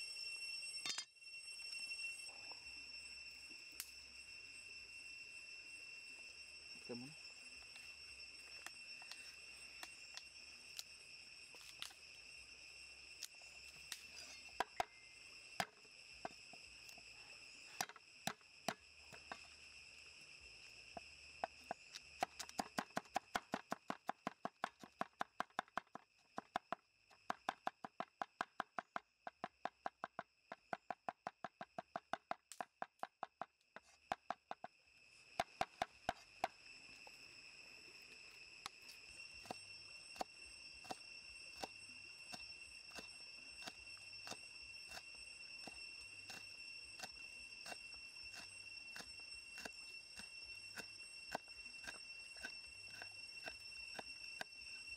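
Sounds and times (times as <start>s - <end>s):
high insect chorus: 0.0s - 54.9s.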